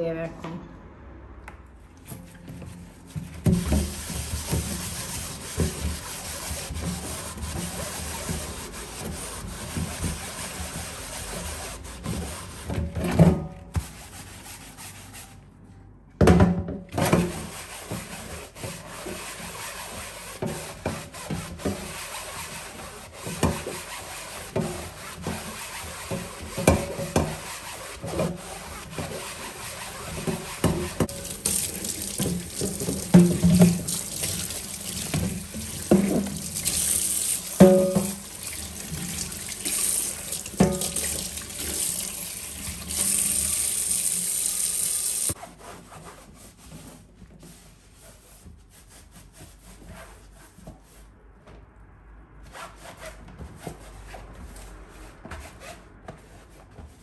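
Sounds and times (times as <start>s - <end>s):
scrubbing a hard surface: 2.1s - 13.0s, 13.8s - 15.4s, 17.0s - 51.1s.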